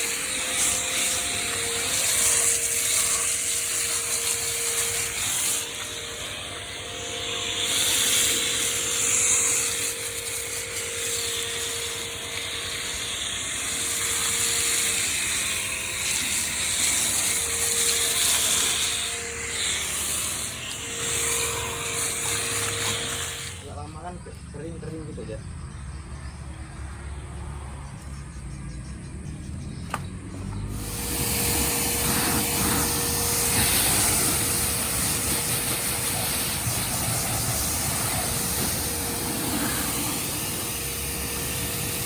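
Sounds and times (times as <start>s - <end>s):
pressure washer spray hiss: 0.0s - 23.8s, 30.8s - 42.0s
pressure washer motor: 0.0s - 24.0s, 30.3s - 42.0s.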